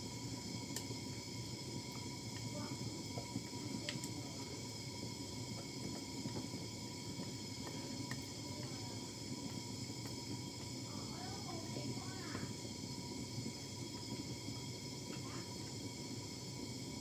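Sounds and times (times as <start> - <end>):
background hiss and hum: 0.0 - 17.0.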